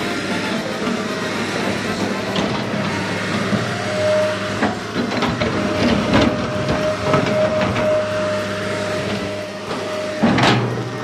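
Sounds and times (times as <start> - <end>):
steady machine drone: 0.0 - 11.0.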